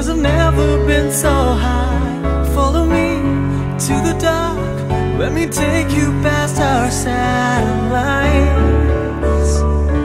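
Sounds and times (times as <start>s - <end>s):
slow melody with wavering notes: 0.0s - 10.0s.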